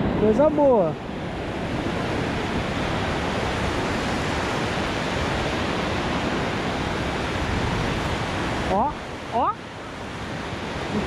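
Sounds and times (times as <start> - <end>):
ocean surf on a sandy beach: 0.0 - 11.0.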